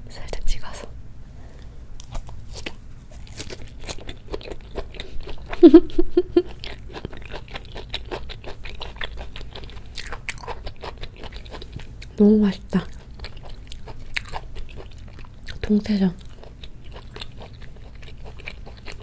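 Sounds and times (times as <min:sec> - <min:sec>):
close chewing with mouth clicks: 0:02.0 - 0:19.0.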